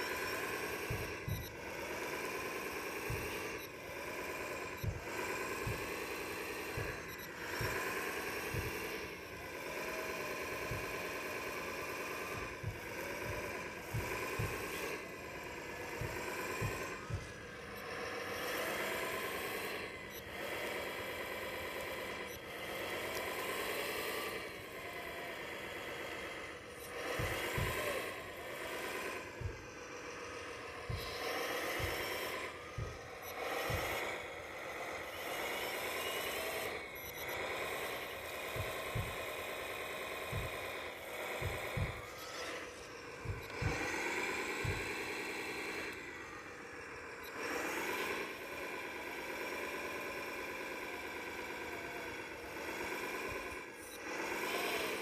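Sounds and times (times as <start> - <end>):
electric motors and gears whining: 0.0 - 55.0.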